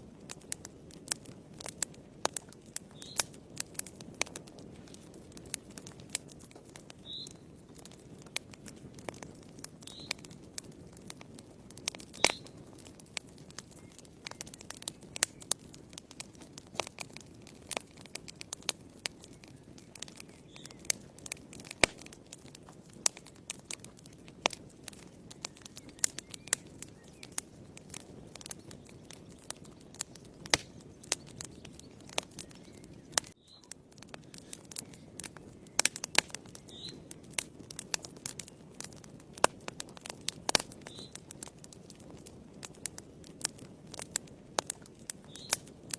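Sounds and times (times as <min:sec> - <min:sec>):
low rush of burning: 0:00.0 - 0:45.9
wood fire crackling: 0:00.0 - 0:45.9.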